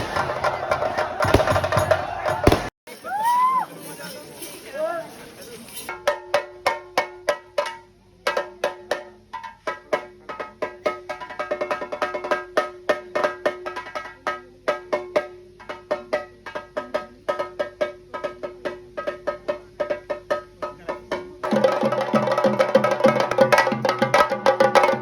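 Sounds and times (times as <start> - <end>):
fast drum strokes: 0.0 - 2.7, 5.9 - 25.0.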